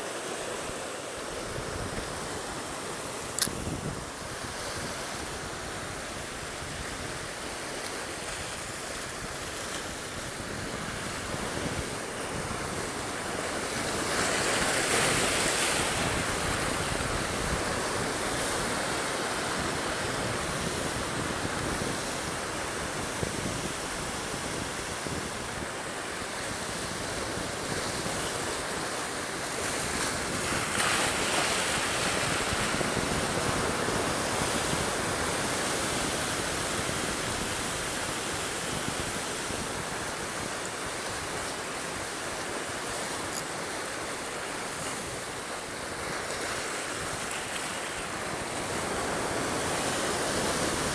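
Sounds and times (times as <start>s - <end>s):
sea surf washing over rocks: 0.0s - 50.9s
wind on microphone: 0.6s - 50.9s.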